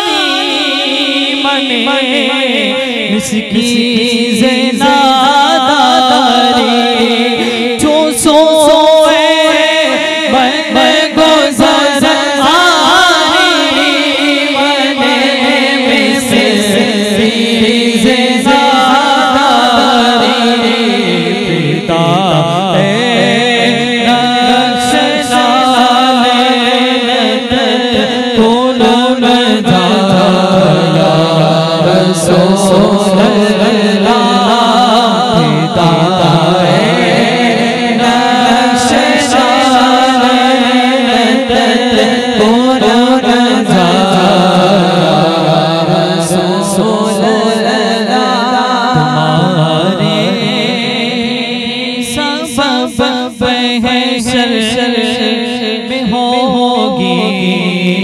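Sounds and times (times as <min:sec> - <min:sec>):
man singing unaccompanied: 0:00.0 - 0:58.0.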